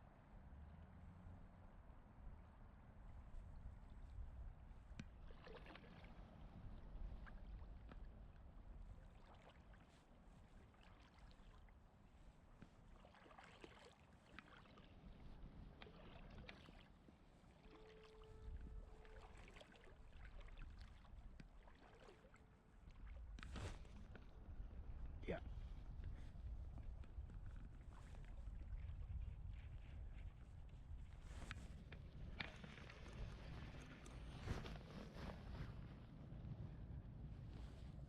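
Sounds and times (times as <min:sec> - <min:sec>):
low river rumble: 0:00.4 - 0:38.0
scattered water sounds: 0:03.1 - 0:36.1.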